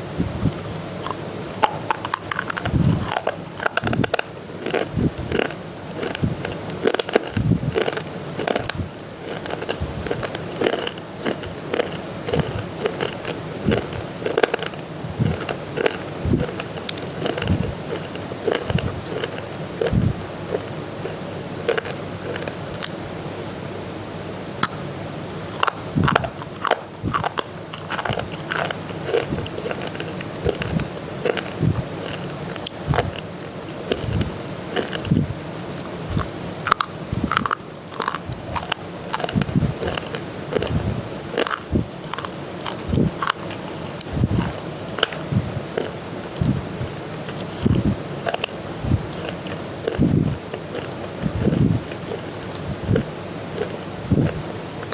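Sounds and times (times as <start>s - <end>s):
steady background noise: 0.0s - 54.9s
person chewing crunchy clay: 0.4s - 23.1s, 24.6s - 46.6s, 47.2s - 54.9s.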